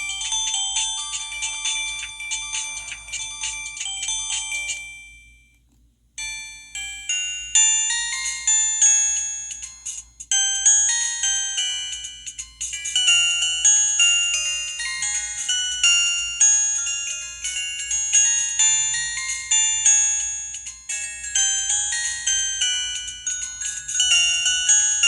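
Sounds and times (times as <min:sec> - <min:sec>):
bell-like ringtone melody: 0:00.0 - 0:05.5, 0:06.2 - 0:25.0
polyphonic ringtone melody: 0:00.0 - 0:05.5, 0:06.2 - 0:25.0.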